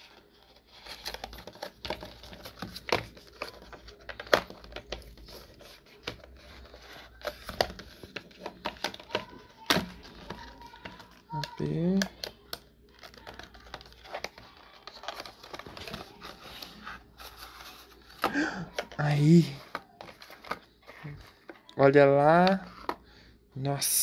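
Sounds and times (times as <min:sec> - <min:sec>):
packaging rustling and crinkling: 0:00.0 - 0:21.7.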